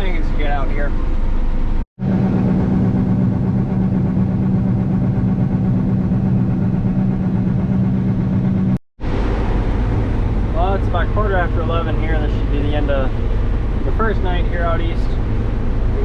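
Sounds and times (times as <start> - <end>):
diesel engine droning: 0.0 - 16.0
lower engine hum: 0.0 - 16.0.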